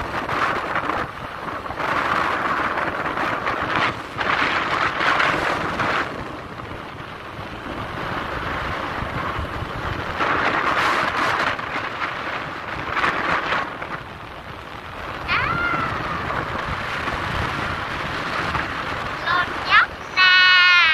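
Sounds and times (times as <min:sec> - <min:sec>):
road noise: 0:00.0 - 0:20.9
wind buffeting microphone: 0:00.0 - 0:20.9.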